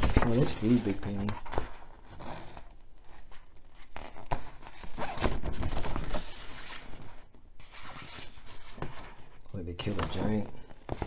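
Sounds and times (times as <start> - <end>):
paper poster rustling: 0.0 - 2.2, 3.0 - 11.0.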